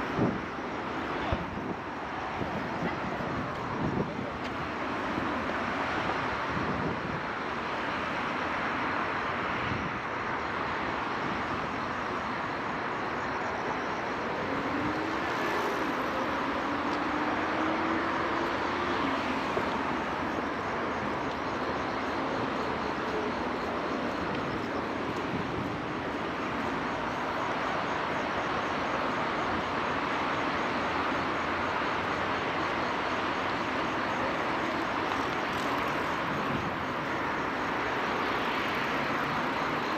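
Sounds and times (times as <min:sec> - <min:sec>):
city traffic hiss: 0:00.0 - 0:39.9.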